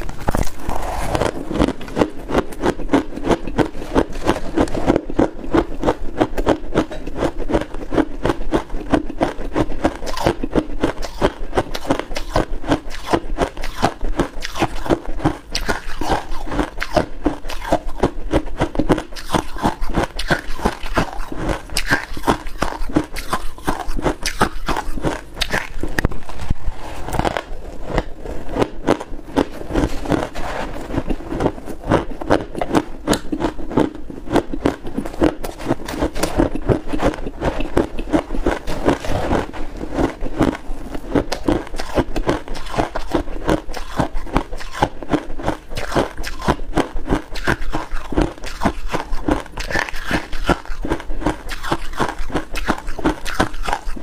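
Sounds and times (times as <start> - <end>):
crunching and chewing frost: 0.0 - 54.0.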